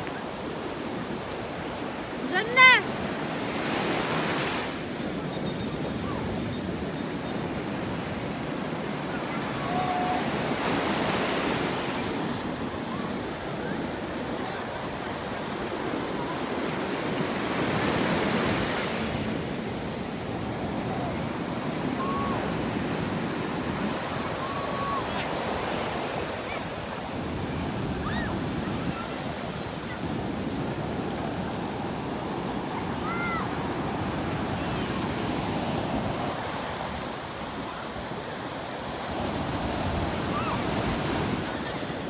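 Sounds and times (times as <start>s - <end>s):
sea waves breaking on beach: 0.0s - 42.0s.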